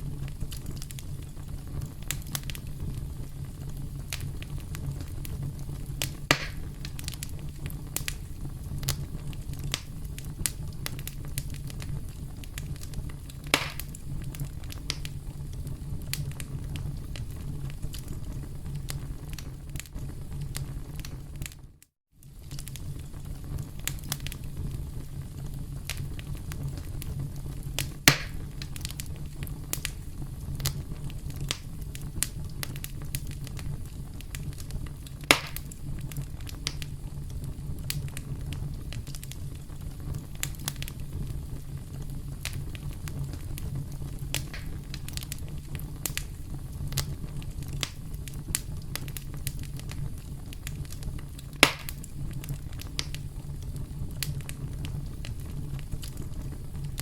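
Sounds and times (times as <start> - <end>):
campfire crackling: 0.0 - 57.0
loud fire snaps: 0.0 - 57.0.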